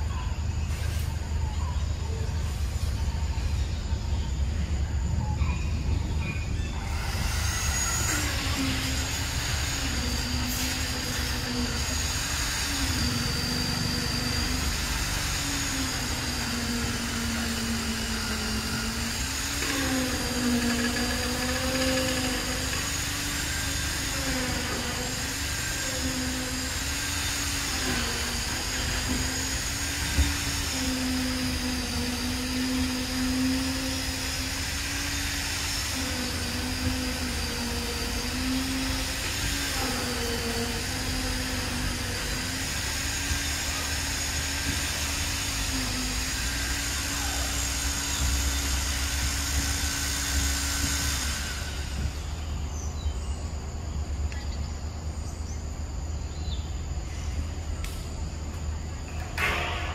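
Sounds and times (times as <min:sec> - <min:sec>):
engine or motor running: 0:00.0 - 0:59.9.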